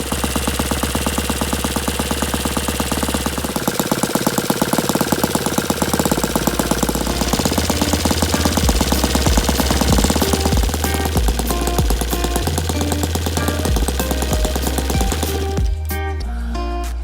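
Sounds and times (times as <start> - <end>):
model aircraft engine running: 0.0 - 15.8.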